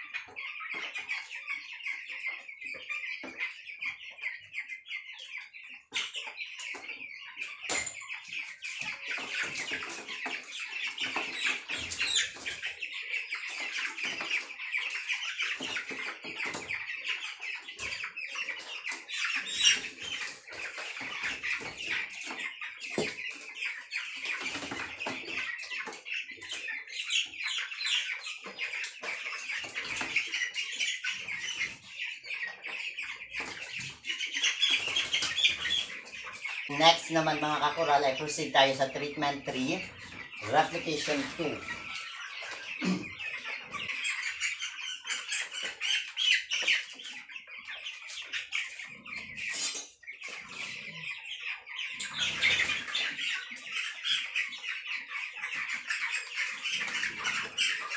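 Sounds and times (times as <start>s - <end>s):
chickens clucking and peeping: 0.0s - 57.9s.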